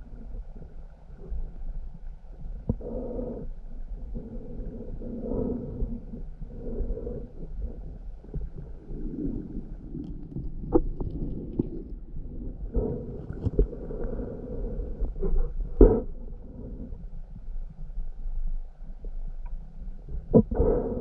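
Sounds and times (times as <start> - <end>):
muffled underwater water rumble: 0.0 - 21.0.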